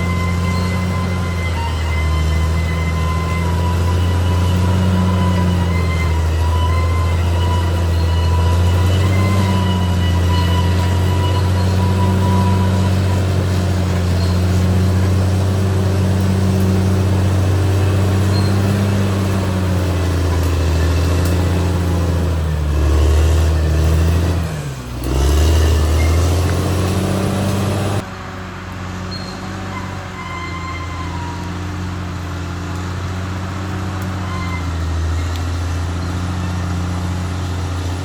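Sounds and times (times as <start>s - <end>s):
bulldozer diesel engine running: 0.0s - 38.0s.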